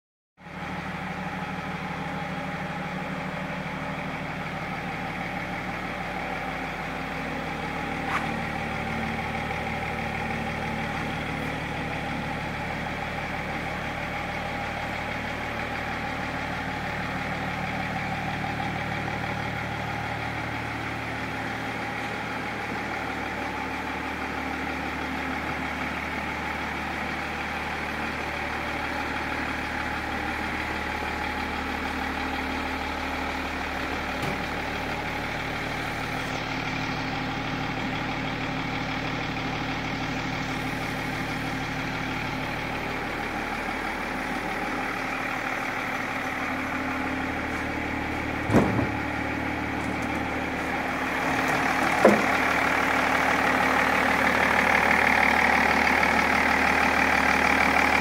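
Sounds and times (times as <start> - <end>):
diesel engine idling: 0.4 - 58.0.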